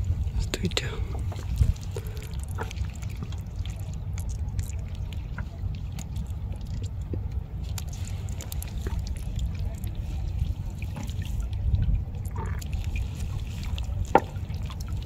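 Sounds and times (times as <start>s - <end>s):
steady low rumble: 0.0s - 15.0s
water dripping: 0.4s - 15.0s.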